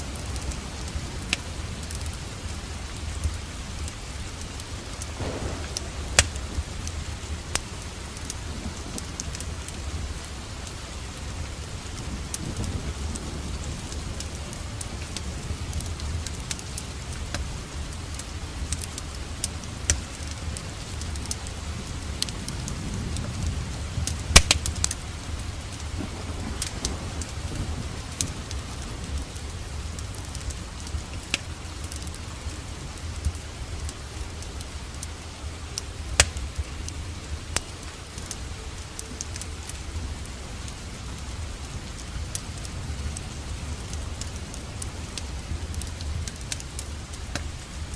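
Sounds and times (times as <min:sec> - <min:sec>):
steady rain: 0:00.0 - 0:47.9
wood fire crackling and popping: 0:00.0 - 0:47.9.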